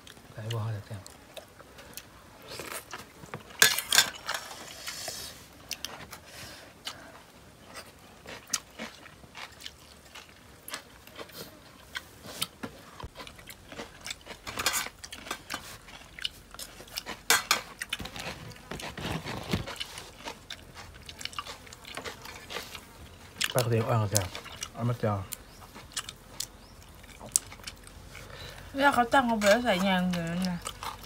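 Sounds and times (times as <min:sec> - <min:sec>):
crunchy chewing: 0:00.0 - 0:31.0.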